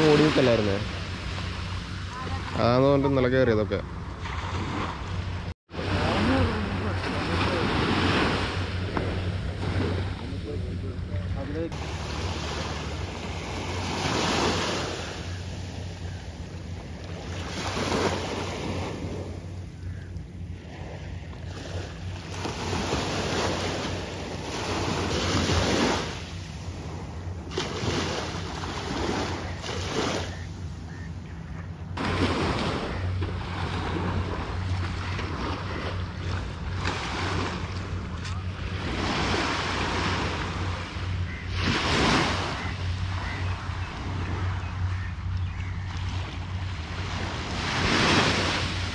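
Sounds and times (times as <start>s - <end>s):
small waves washing in: 0.0s - 31.0s, 31.7s - 48.9s
steady low hum: 0.0s - 48.9s.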